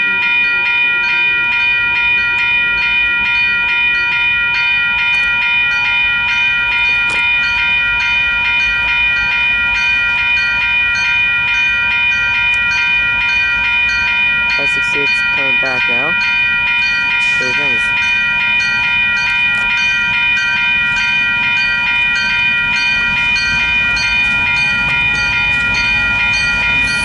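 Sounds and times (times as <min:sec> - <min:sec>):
railroad crossing bell ringing: 0:00.0 - 0:27.0.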